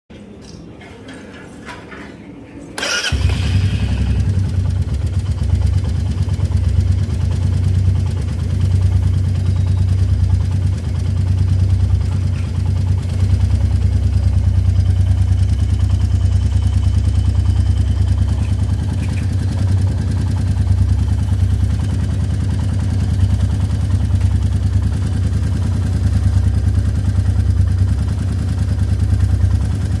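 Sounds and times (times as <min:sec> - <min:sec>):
motorcycle engine starting and idling: 0:02.8 - 0:30.0.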